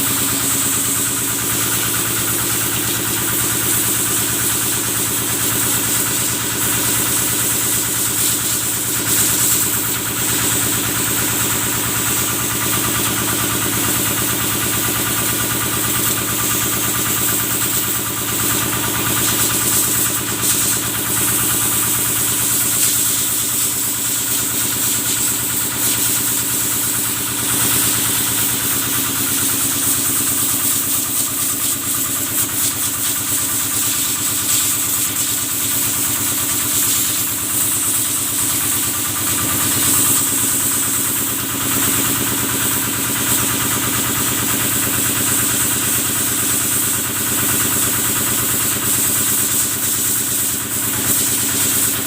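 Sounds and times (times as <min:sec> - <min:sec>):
water pump engine running: 0:00.0 - 0:52.0.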